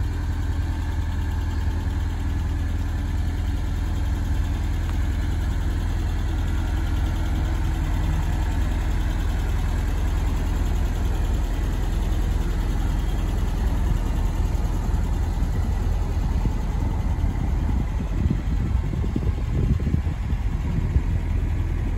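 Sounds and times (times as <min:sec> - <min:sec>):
truck engine idling: 0:00.0 - 0:21.9.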